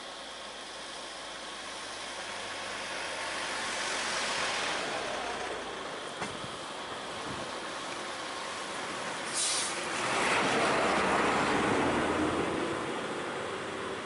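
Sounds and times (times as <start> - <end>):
vehicles running on a road: 0.0 - 14.0.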